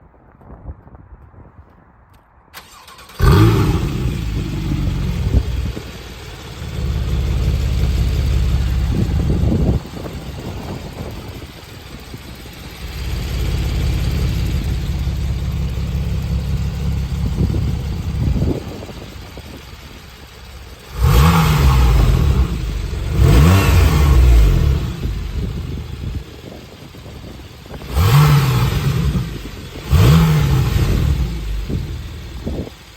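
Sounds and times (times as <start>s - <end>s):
car engine starting and idling: 2.6s - 32.9s.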